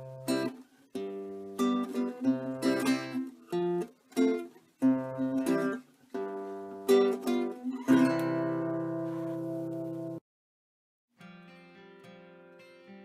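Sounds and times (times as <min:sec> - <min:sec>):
acoustic guitar strummed chords: 0:00.0 - 0:10.2, 0:11.2 - 0:13.0.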